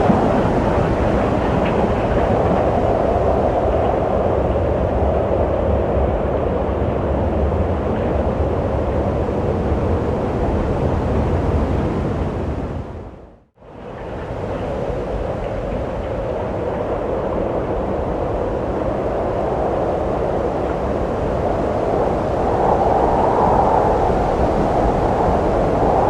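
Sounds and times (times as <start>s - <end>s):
wind blowing: 0.0s - 26.0s.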